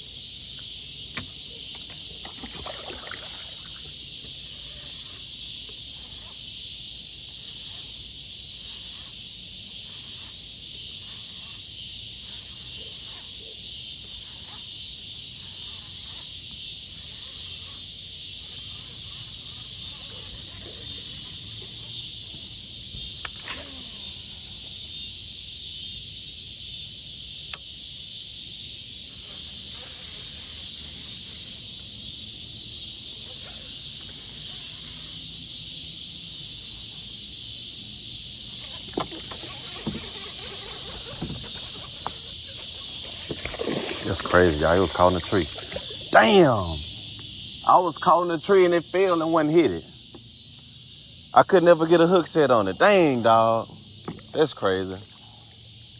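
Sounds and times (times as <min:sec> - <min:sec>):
crickets chirping: 0:00.0 - 0:55.9.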